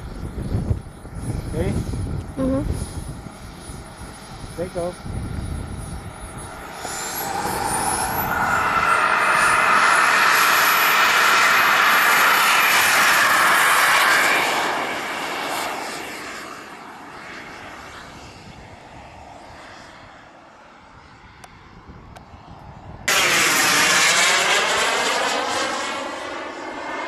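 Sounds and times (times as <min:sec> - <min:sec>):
model jet turbine roar and whine: 0:00.0 - 0:27.0.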